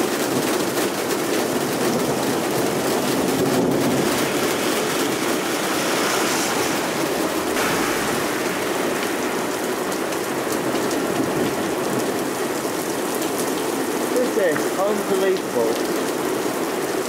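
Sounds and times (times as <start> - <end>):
torrential rain on road: 0.0 - 17.0.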